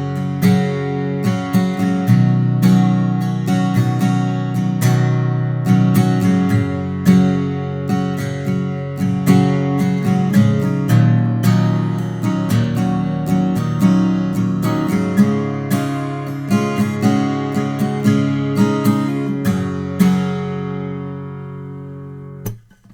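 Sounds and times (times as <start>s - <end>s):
acoustic guitar picked notes and chords: 0.0s - 22.9s.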